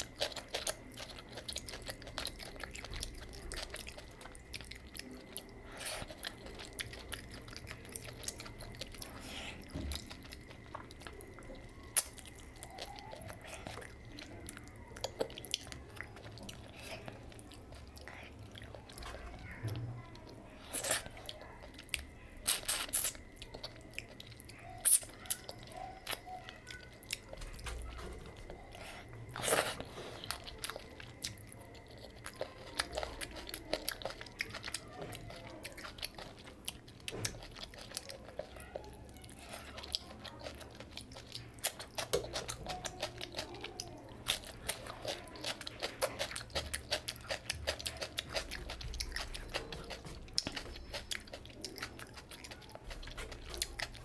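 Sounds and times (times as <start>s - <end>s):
chewing and lip smacks: 0.0s - 54.0s.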